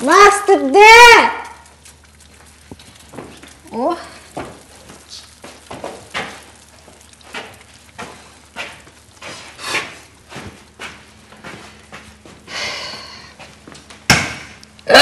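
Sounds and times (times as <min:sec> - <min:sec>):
footsteps: 0:01.4 - 0:14.6.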